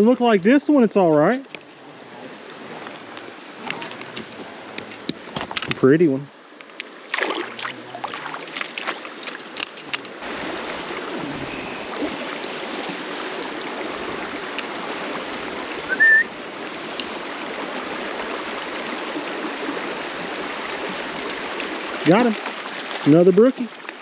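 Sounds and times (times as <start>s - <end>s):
water splashing: 0.0s - 5.7s, 6.7s - 24.0s
creek water running over rocks: 0.0s - 24.0s.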